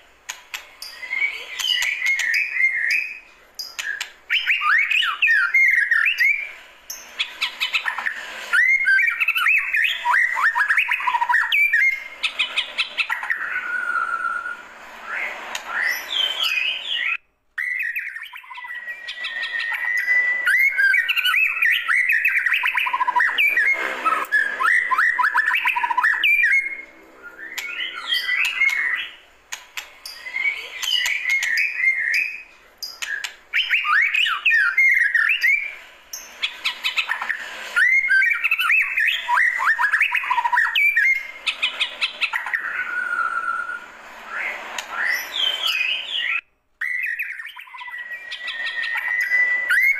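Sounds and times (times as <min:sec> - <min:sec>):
songbird whistles and trills: 0:00.3 - 0:49.9.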